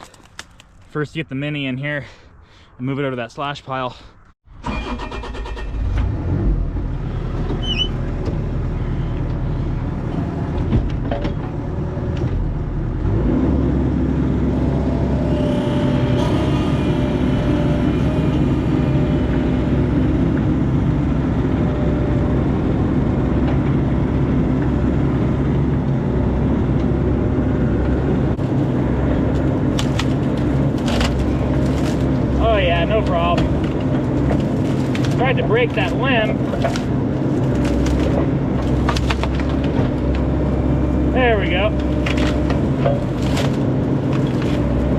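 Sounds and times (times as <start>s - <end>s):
mini excavator diesel engine running: 6.6s - 44.9s.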